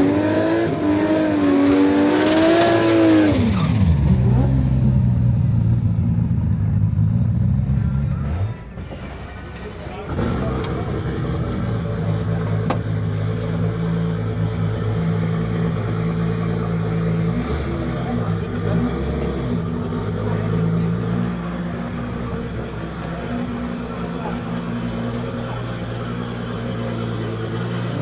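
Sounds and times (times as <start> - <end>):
car engine idling: 3.0 - 28.0.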